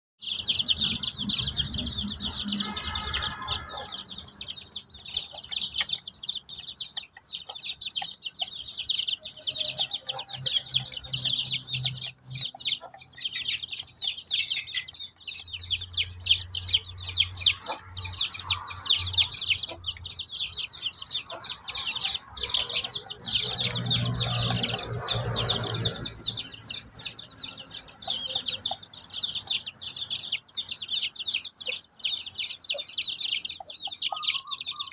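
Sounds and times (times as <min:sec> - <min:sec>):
chicks peeping: 0:00.2 - 0:34.9.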